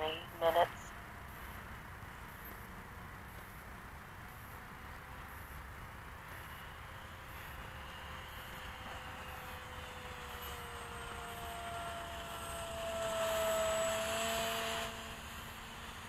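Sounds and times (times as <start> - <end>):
electric motor and propeller whine: 0.0 - 16.0.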